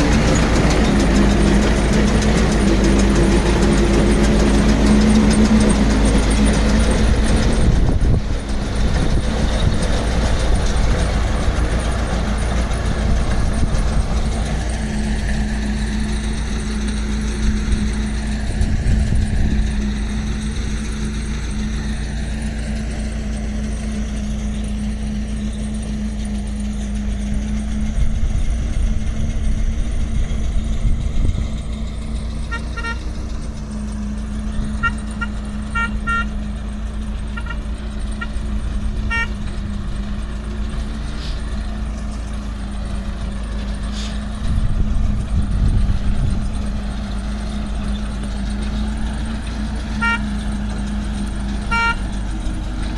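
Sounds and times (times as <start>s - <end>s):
tractor engine hum and rumble: 0.0s - 52.9s.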